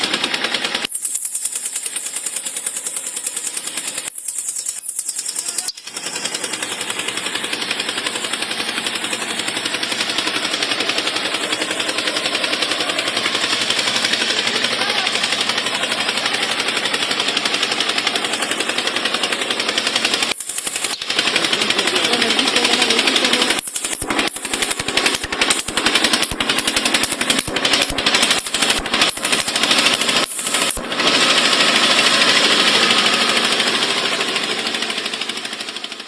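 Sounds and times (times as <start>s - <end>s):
small machine rattling: 0.0s - 36.0s.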